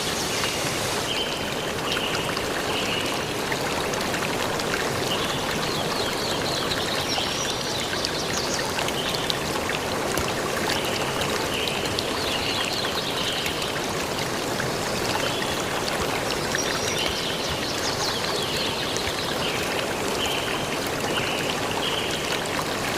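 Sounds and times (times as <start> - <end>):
stream flowing: 0.0 - 22.9.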